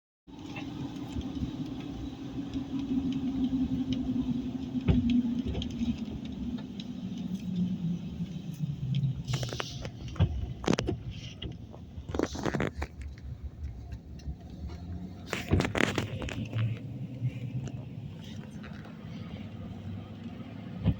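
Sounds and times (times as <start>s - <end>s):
car engine slowing: 0.3s - 20.9s
road noise: 0.3s - 20.9s
sharp crackles and clicks: 0.3s - 20.9s.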